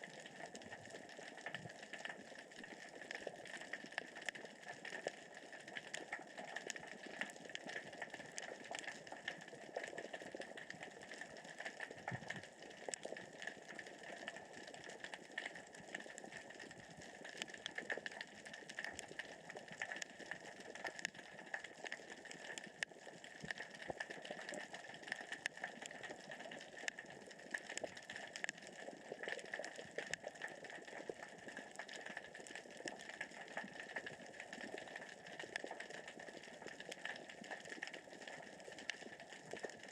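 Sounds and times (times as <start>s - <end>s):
underwater crackle of tiny clicks: 0.0s - 39.9s.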